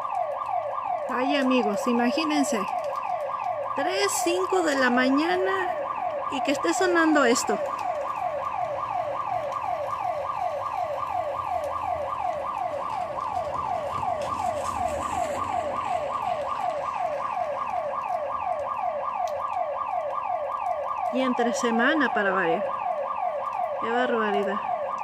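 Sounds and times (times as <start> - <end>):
alarm siren sweeping tone: 0.0 - 25.0.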